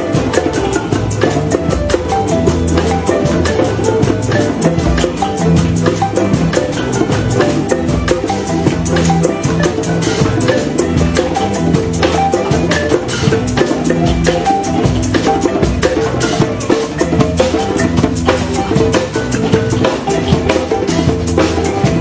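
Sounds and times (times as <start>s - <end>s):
band playing fast dance music: 0.0s - 22.0s.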